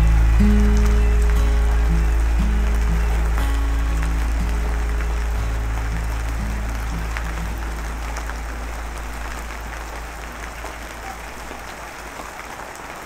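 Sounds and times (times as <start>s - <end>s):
background music: 0.0s - 10.6s
steady rain: 0.0s - 13.0s.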